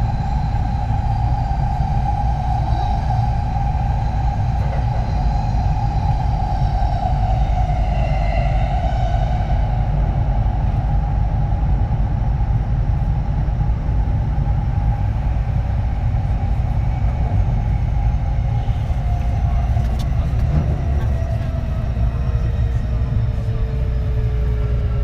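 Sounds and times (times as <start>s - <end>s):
train wheel and track rumble: 0.0s - 25.0s.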